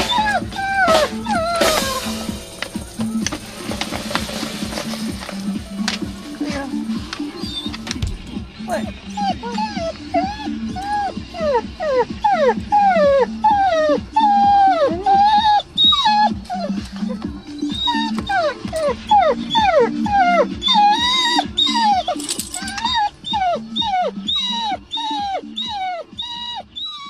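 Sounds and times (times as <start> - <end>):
dog whining: 0.0 - 27.0.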